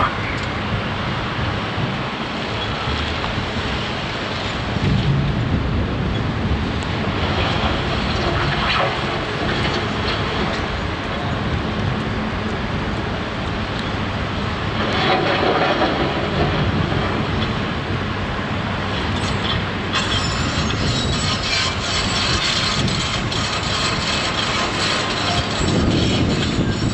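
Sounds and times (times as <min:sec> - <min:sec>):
diesel construction machinery rumbling: 0:00.0 - 0:26.9.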